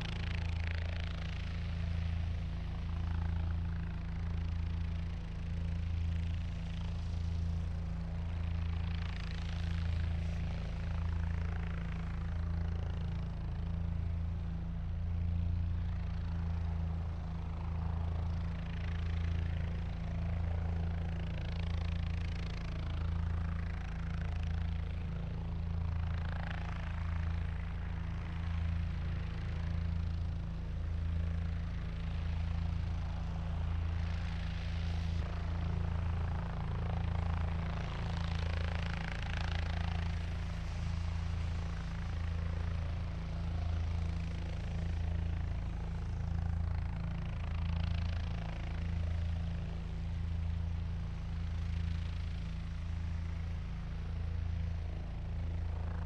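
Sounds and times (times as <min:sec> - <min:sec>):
helicopter rotor drone: 0:00.0 - 0:56.0.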